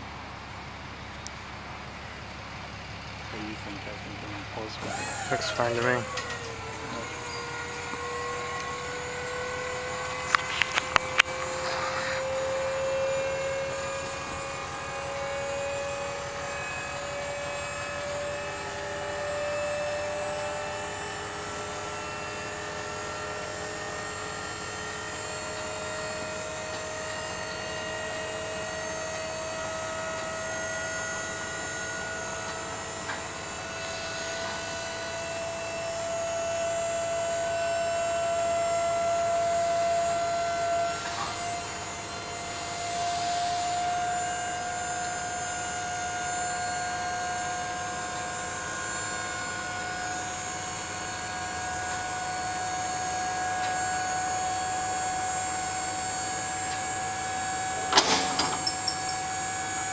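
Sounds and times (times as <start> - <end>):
hydraulic pump motor whine: 0.0 - 59.9.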